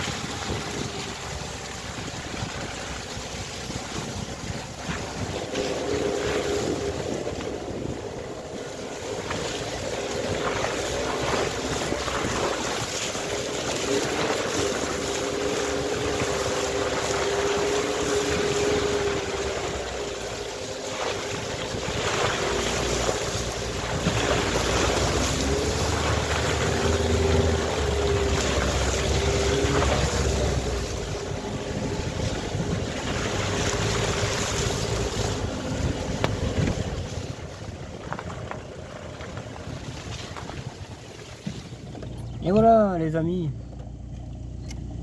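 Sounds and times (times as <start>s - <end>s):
tyre and wind noise: 0.0s - 42.9s
car engine running: 0.0s - 45.0s.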